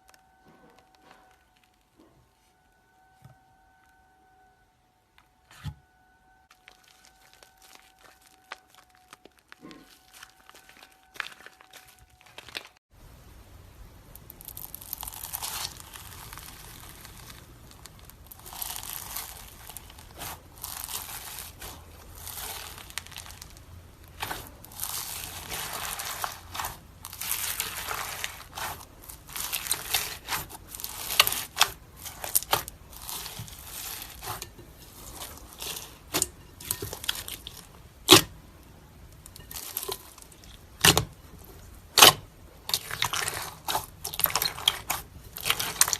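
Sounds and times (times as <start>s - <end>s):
slime squeezed crackling: 6.5s - 12.8s, 14.1s - 45.9s.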